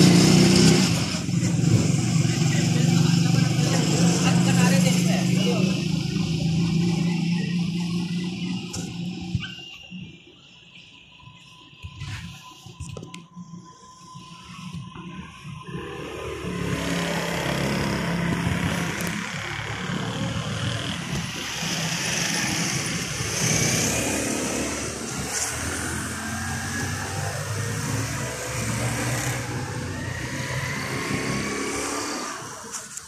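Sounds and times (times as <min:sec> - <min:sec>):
engine revving up: 0:00.0 - 0:09.4, 0:14.9 - 0:33.0
motorcycle engines passing: 0:00.0 - 0:10.7, 0:14.0 - 0:33.0
car engines passing: 0:00.0 - 0:33.0.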